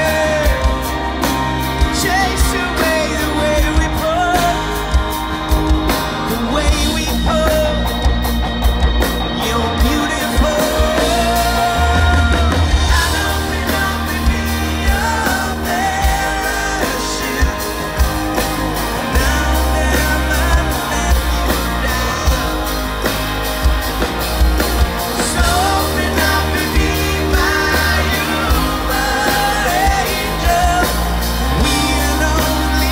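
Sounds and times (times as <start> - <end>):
male singer singing: 0.0 - 5.2, 6.2 - 8.1, 9.3 - 23.1, 25.1 - 32.9
bass guitar: 0.0 - 32.9
drums: 0.0 - 32.9
electric guitars: 0.0 - 32.9.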